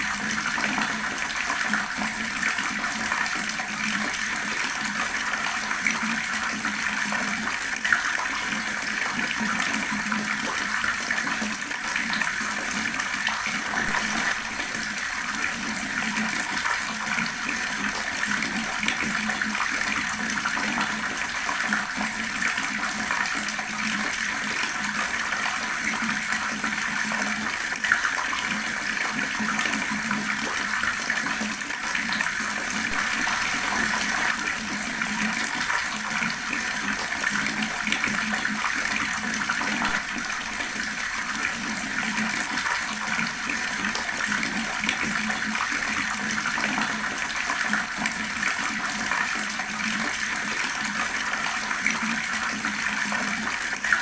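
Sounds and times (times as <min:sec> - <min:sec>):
water running from a tap: 0:00.0 - 0:54.0.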